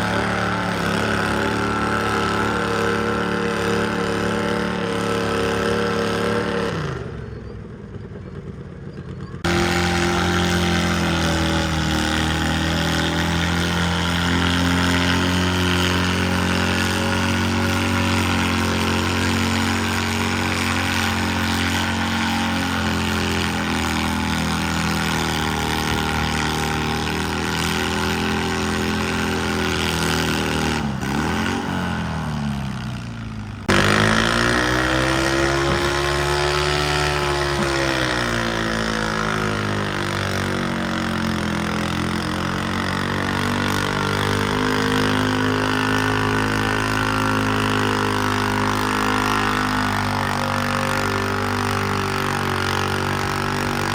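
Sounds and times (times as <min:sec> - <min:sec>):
engine revving: 0:00.0 - 0:07.4, 0:09.2 - 0:53.9
garden tractor engine running: 0:00.0 - 0:53.9.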